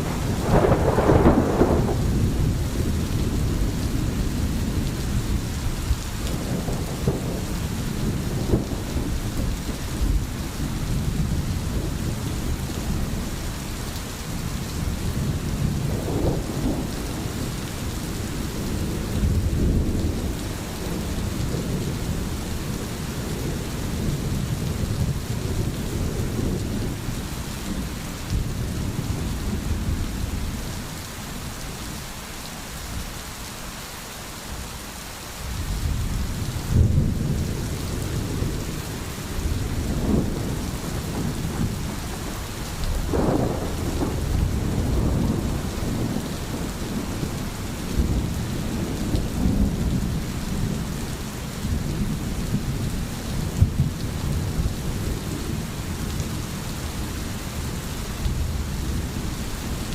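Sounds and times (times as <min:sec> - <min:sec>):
rolling thunder: 0:00.0 - 0:13.4, 0:14.3 - 0:30.8, 0:35.5 - 0:59.8
steady rain: 0:00.0 - 0:59.9.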